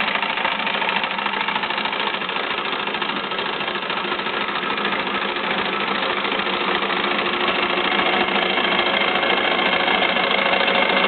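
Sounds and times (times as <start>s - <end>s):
model engine whirring and clattering: 0.0s - 11.0s.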